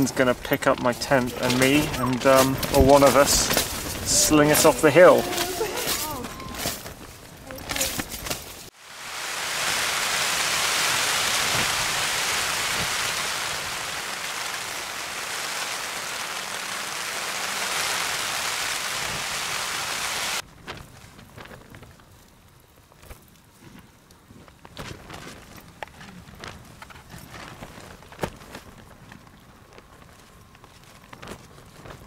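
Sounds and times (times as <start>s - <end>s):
rain on a tent: 0.0s - 32.0s.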